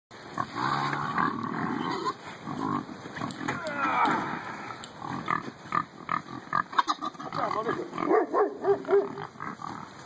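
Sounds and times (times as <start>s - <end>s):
pigs grunting and squealing: 0.3s - 10.0s.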